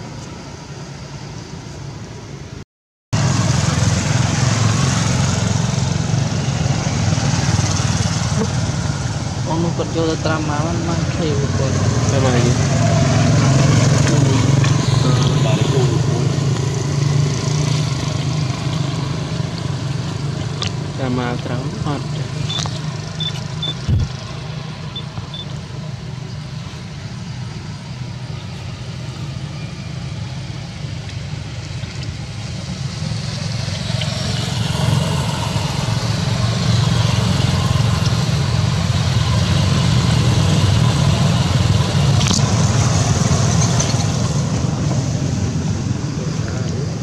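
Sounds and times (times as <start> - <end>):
vehicle engine rumbling: 3.2 - 47.0.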